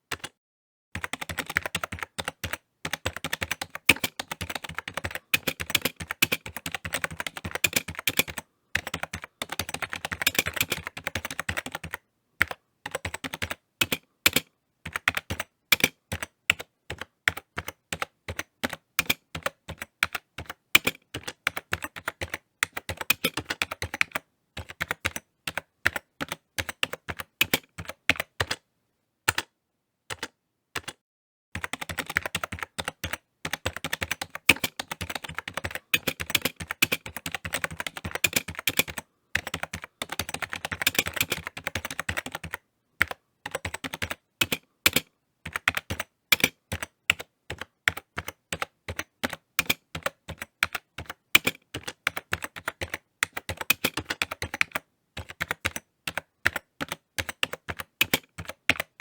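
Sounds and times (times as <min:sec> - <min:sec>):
typing on computer keyboard: 0:00.1 - 0:00.4, 0:01.0 - 0:28.6, 0:29.3 - 0:29.5, 0:30.1 - 0:31.0, 0:31.6 - 0:59.0.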